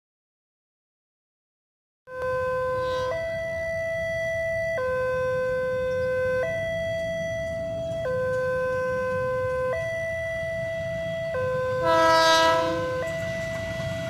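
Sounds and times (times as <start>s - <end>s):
level crossing two-tone alarm: 2.1s - 14.0s.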